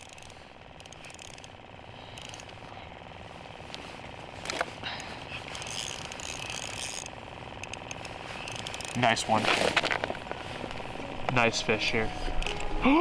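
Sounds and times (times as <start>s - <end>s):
fishing reel ticking whir: 0.0s - 13.0s.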